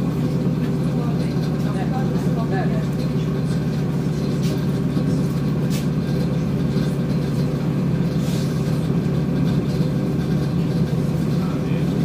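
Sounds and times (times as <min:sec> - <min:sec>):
train hum and rumble: 0:00.0 - 0:12.0.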